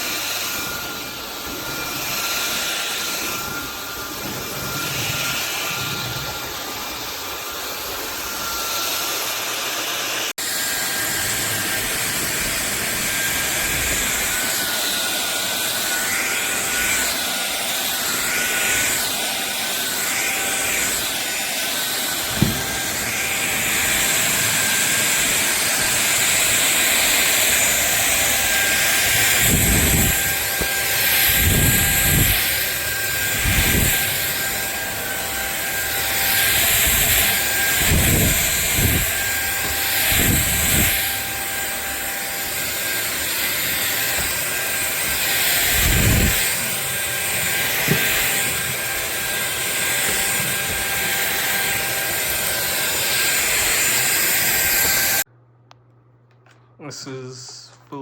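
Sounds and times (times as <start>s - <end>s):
stick vacuum cleaner running: 0.0s - 55.3s.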